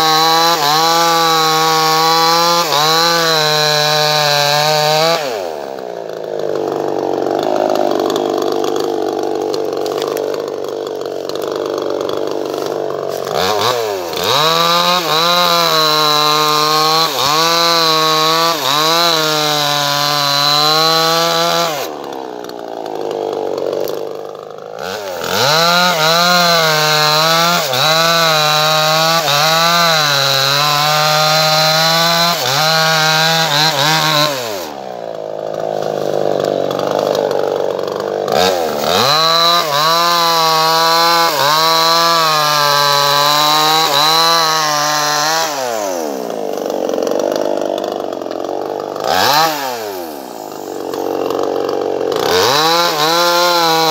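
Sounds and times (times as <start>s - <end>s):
chainsaw engine revving: 0.0s - 53.9s.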